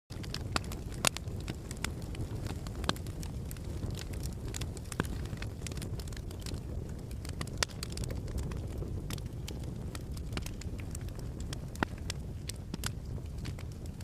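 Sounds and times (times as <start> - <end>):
wood fire crackling: 0.1 - 14.0.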